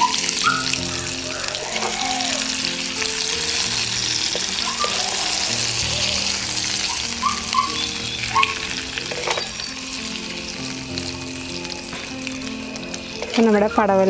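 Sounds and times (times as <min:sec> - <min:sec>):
music of slow sustained notes: 0:00.0 - 0:14.0
spices sizzling in oil: 0:00.0 - 0:14.0.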